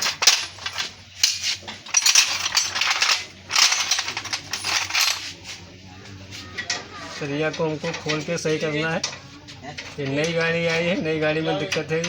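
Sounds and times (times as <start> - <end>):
hand tools clinking on metal: 0.0 - 5.5, 6.5 - 12.0.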